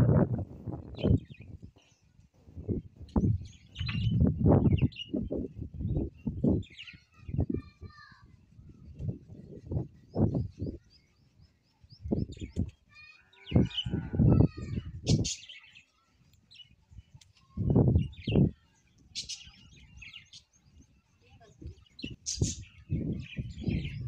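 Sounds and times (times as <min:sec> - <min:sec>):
small birds chirping: 0:00.7 - 0:24.0.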